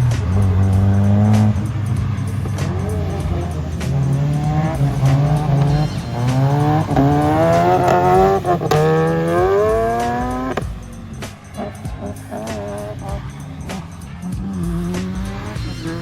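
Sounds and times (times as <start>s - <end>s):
background music: 0.0s - 16.0s
car engine at high revs: 0.0s - 16.0s
tyre noise: 0.0s - 16.0s.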